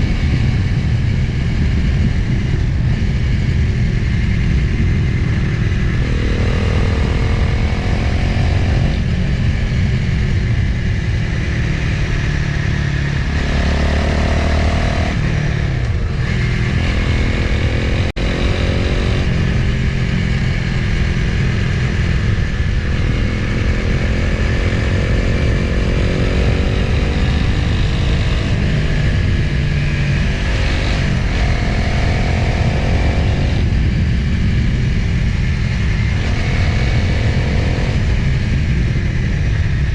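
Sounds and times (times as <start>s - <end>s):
motorcycle engine shifting gears: 0.0s - 39.9s
wind noise on microphone: 0.0s - 39.9s.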